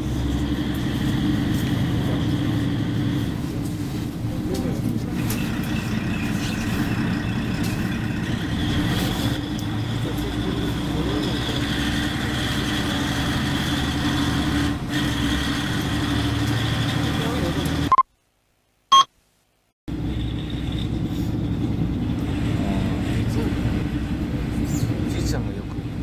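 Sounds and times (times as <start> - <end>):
train low hum: 0.0 - 17.9, 19.9 - 26.0.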